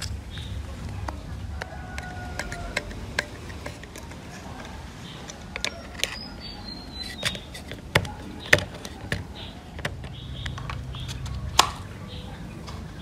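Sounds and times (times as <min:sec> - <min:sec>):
plastic and metal parts clicking: 0:00.0 - 0:06.4, 0:07.0 - 0:11.8.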